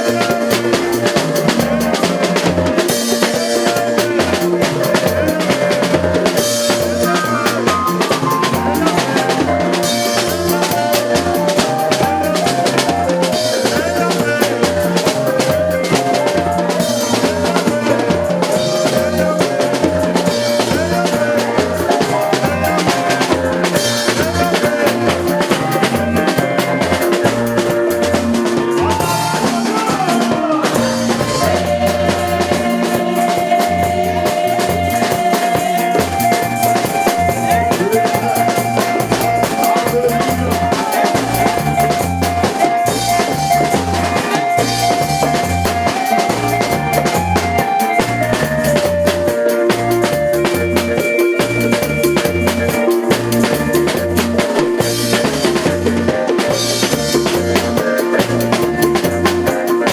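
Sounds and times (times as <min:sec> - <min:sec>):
music with drum-kit beat: 0:00.0 - 0:59.9.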